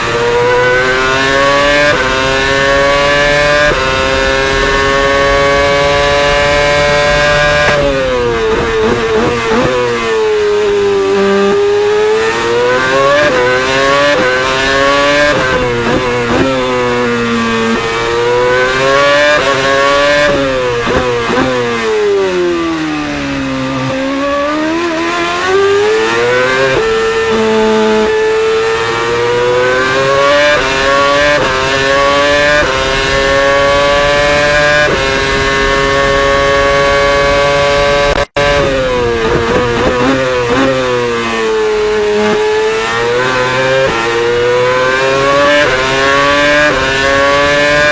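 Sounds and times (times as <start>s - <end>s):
engine upshifts and downshifts: 0.0s - 47.9s
racing car engine revving: 0.0s - 47.9s.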